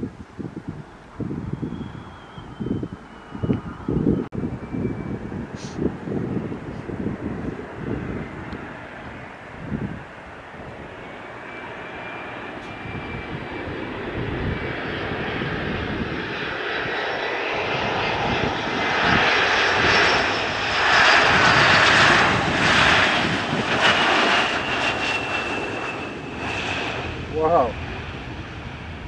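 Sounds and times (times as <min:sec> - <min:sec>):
airliner engines roaring: 0:00.0 - 0:29.0.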